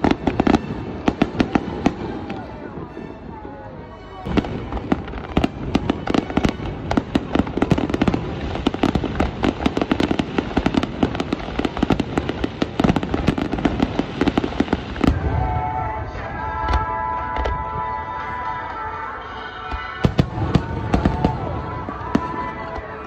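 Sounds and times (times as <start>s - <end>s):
background music: 0.0s - 23.0s
fireworks bursting: 0.0s - 23.0s.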